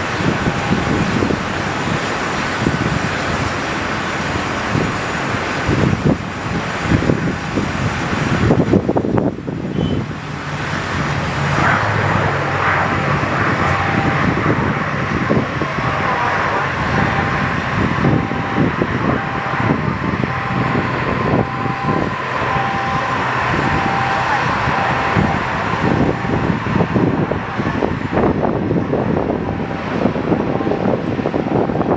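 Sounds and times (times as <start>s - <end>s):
airliner engines droning: 0.0s - 31.9s
wind on microphone: 0.0s - 31.9s.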